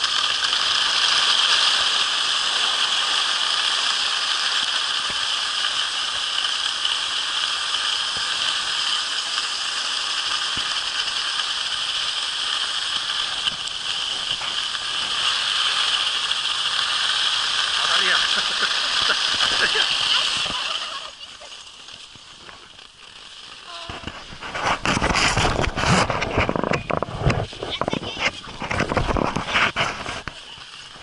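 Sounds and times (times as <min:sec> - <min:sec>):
skis sliding over hard snow: 0:00.0 - 0:31.0.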